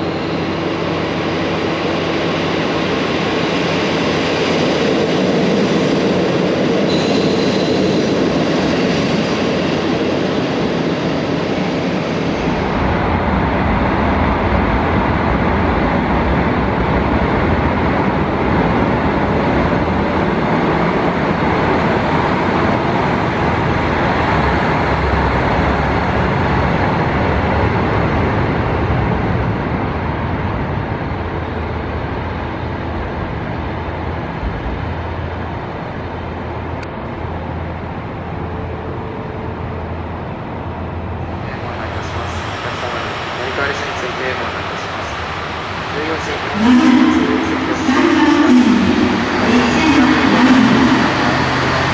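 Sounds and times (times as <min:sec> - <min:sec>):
diesel railcar rumbling on track: 0:00.0 - 0:51.9.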